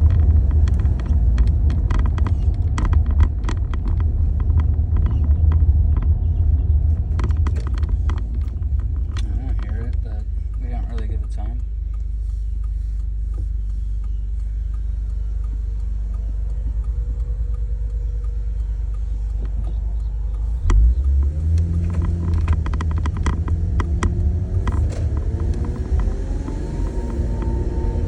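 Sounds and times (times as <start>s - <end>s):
car road and engine rumble: 0.0s - 28.0s
sharp clicks from car: 0.0s - 28.0s.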